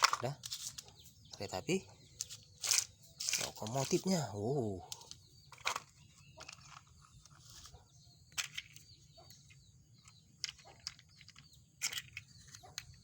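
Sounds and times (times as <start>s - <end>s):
faint bird chirps: 0.3s - 13.0s.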